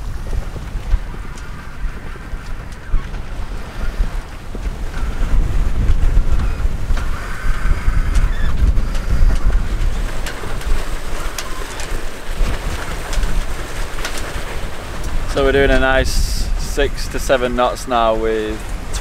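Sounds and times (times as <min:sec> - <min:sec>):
water rushing along hulls: 0:00.0 - 0:19.0
wind buffeting microphone: 0:00.0 - 0:19.0.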